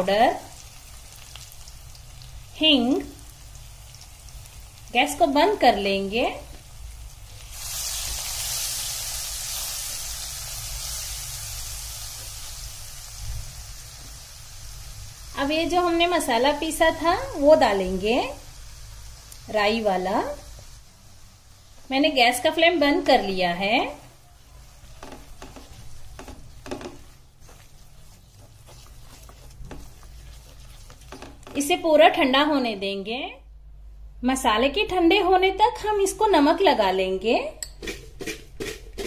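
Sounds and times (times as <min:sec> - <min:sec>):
spices sizzling in hot oil: 0:00.0 - 0:32.6.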